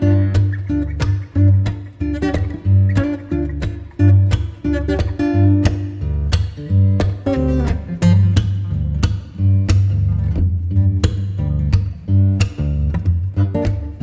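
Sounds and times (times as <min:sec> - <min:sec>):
plucked guitar notes: 0:00.0 - 0:14.0
steady bass line: 0:00.0 - 0:14.0.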